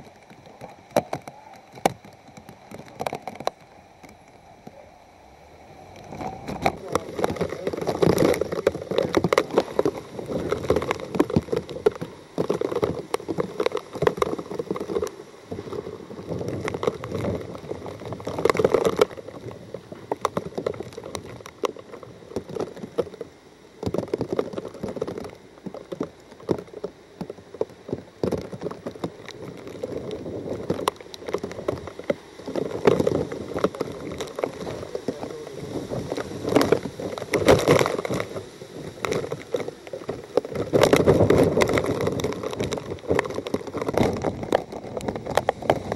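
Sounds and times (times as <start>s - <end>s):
crackles: 0.0s - 45.9s
gusting wind and rain: 0.0s - 45.9s.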